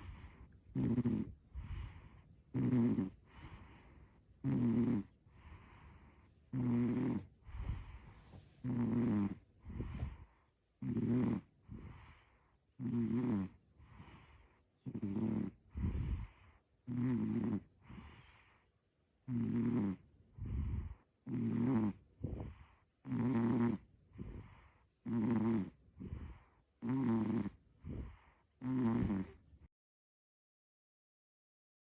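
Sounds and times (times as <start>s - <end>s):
cat snoring: 0.0s - 29.5s.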